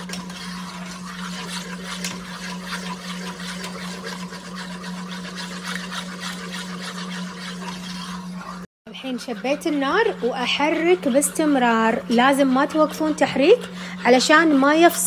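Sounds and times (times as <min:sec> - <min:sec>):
whisk scraping a pot: 0:00.0 - 0:15.0.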